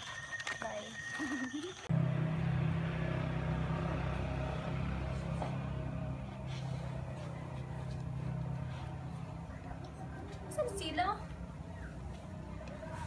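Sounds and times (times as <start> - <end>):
low motor hum with rushing: 1.9 - 13.0.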